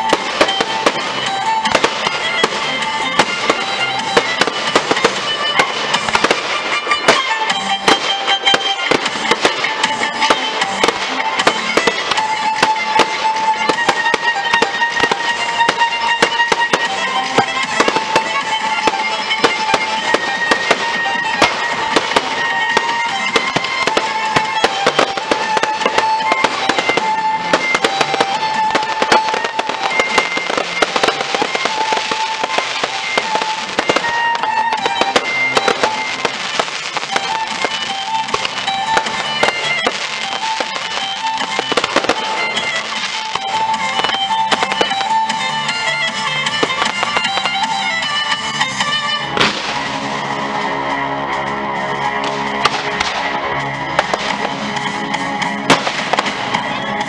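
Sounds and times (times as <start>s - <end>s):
fireworks crackling and bangs: 0.0s - 57.0s
show music: 0.0s - 57.0s.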